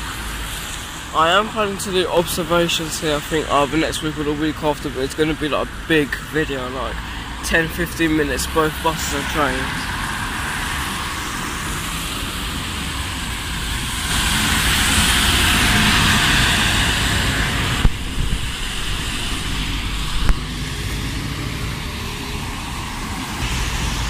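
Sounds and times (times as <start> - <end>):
engine rumble: 0.0 - 24.0
tyres hissing on wet road: 0.0 - 24.0.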